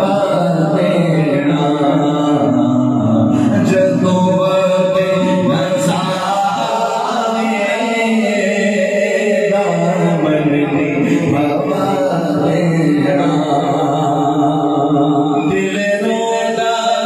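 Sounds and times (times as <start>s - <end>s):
men singing unaccompanied: 0.0s - 17.0s.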